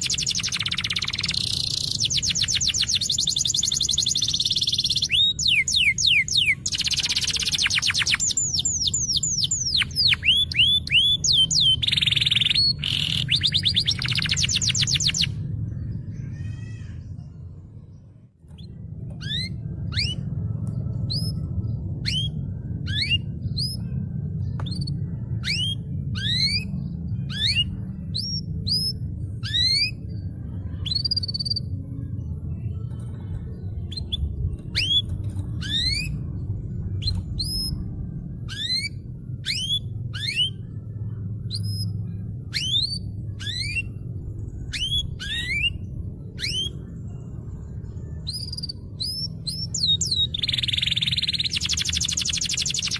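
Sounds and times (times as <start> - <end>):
canary singing: 0.0 - 17.3, 18.5 - 31.8, 33.7 - 52.9
steady low hum: 0.0 - 52.9.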